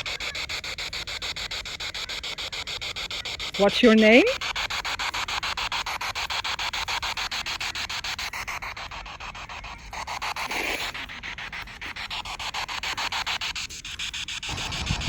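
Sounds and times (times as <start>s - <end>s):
chopped radio static hiss: 0.0s - 10.6s, 11.3s - 15.0s.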